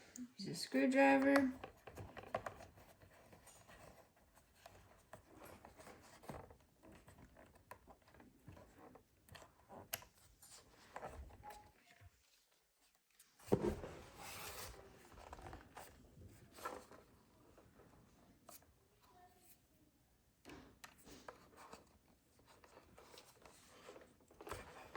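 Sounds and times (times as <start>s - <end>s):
scraping and rustling: 1.3s - 19.6s, 21.0s - 24.9s.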